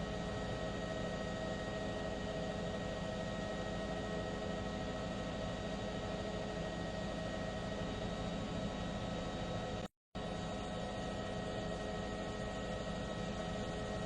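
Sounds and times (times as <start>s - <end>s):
mechanical hum with constant tones: 0.0s - 14.0s.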